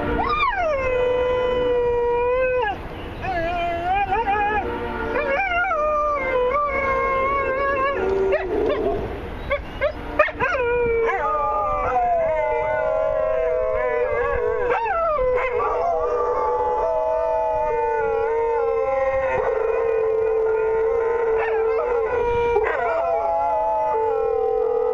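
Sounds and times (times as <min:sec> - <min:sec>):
dogs howling: 0:00.2 - 0:24.9.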